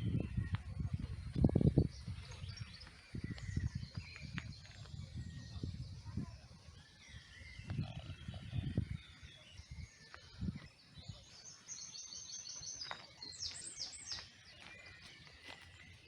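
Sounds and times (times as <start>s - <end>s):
small songbird singing: 0.0s - 16.0s.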